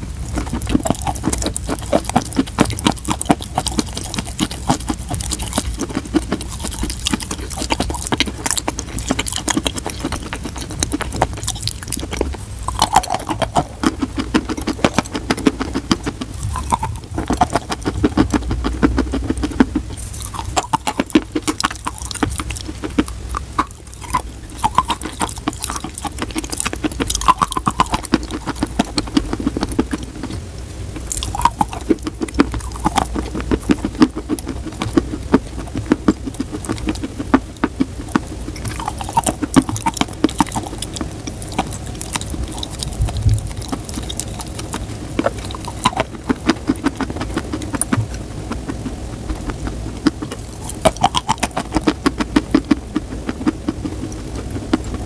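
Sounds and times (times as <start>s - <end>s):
chewing chalk crunching: 0.0s - 55.0s.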